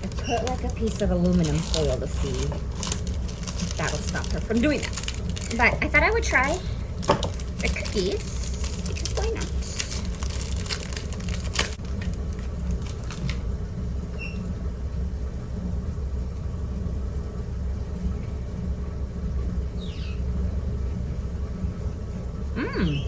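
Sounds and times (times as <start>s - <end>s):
low mechanical rumble: 0.0s - 23.0s.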